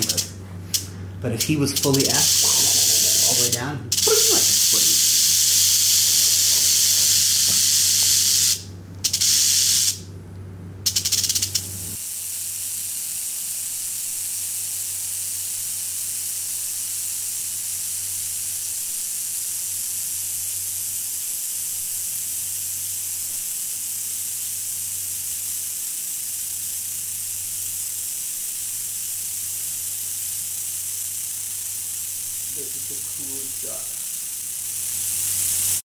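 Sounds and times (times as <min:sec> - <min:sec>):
rattlesnake rattling: 0:00.0 - 0:10.1, 0:10.8 - 0:35.9.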